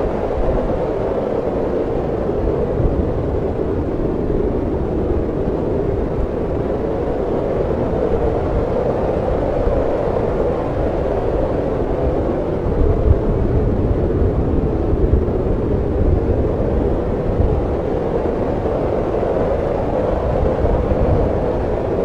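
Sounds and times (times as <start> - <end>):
snowstorm wind blowing: 0.0 - 22.0.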